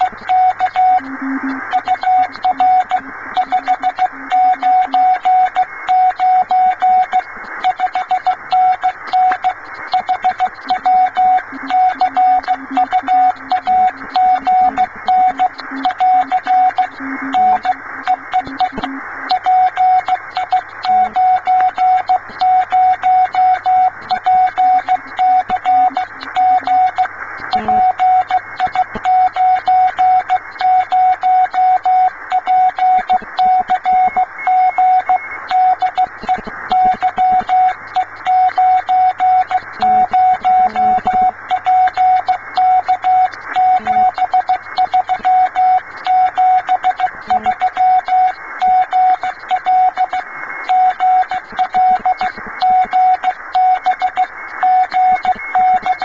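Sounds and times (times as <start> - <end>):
morse code beeps: 0.0 - 56.0
radio static hiss: 0.0 - 56.0.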